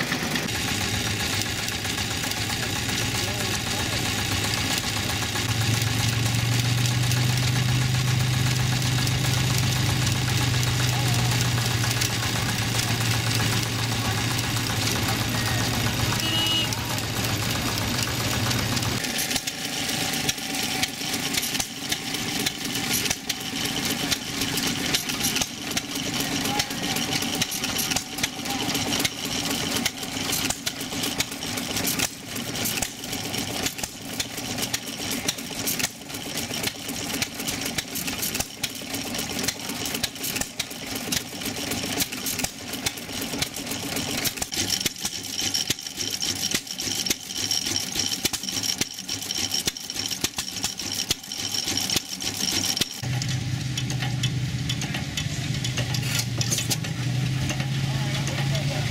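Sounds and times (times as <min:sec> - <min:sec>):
mechanical clatter: 0:00.0 - 0:58.9
stationary gas engines running: 0:00.0 - 0:58.9.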